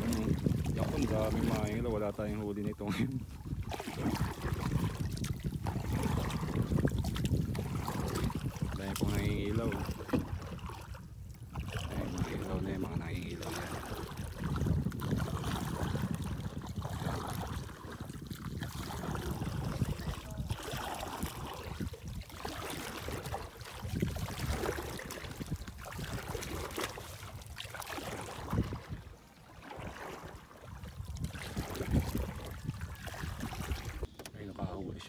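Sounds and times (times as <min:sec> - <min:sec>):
shallow water sloshing and splashing: 0:00.0 - 0:35.0.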